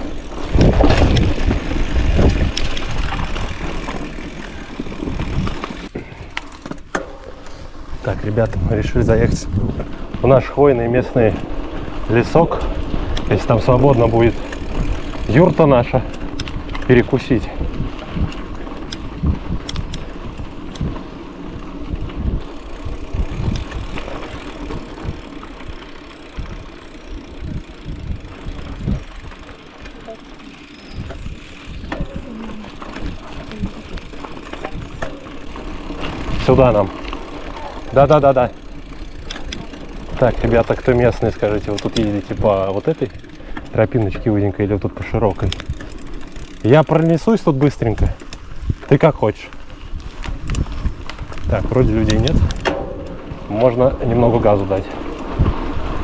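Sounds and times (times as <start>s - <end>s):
bicycle tyres rumbling: 0.0s - 56.0s
bike rattling and clicking: 0.0s - 56.0s.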